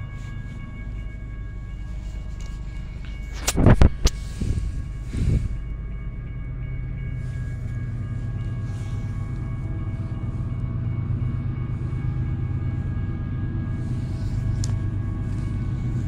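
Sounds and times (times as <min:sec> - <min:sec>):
diesel locomotives rumbling: 0:00.0 - 0:16.0.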